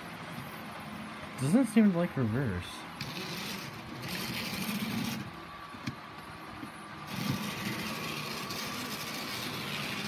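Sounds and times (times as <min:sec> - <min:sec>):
model train whirring hum: 0:00.0 - 0:10.0.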